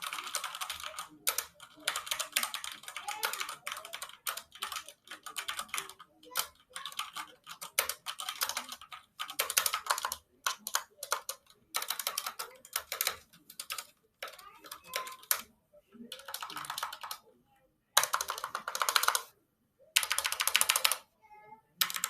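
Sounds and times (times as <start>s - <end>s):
fast keyboard typing: 0.0s - 15.5s, 16.1s - 17.2s, 18.0s - 19.3s, 20.0s - 21.0s, 21.8s - 22.0s.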